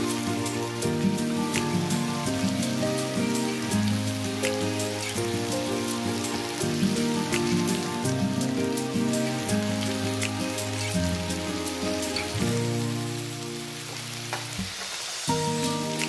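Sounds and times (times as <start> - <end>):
rain drop ticks: 0.0 - 16.0
soft music of held notes: 0.0 - 16.0
steady rain hiss: 0.0 - 16.0.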